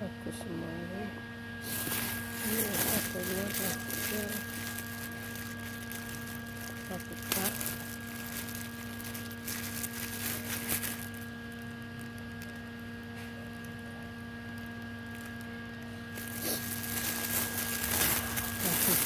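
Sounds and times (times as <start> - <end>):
steady electrical hum: 0.0 - 19.0
rustling and handling noises: 1.6 - 19.0.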